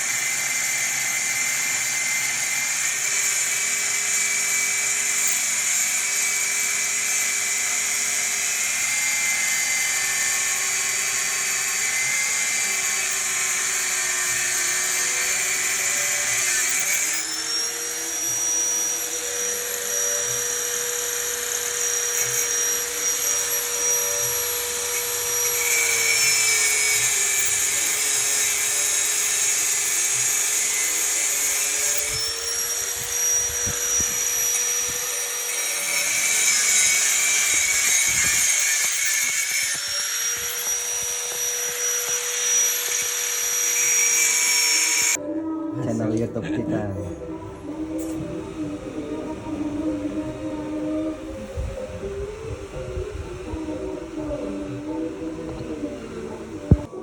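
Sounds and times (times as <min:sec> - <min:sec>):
power tool whining: 0:00.0 - 0:45.2, 0:47.2 - 0:57.0.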